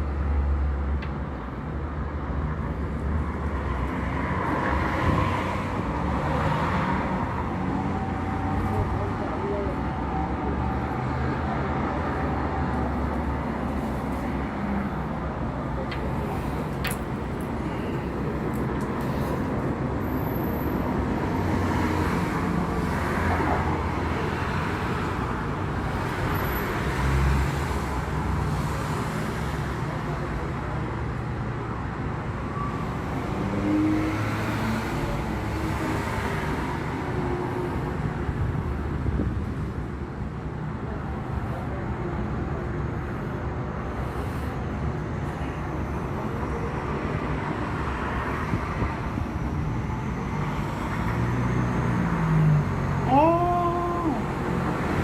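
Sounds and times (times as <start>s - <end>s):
low traffic-like drone: 0.0s - 55.0s.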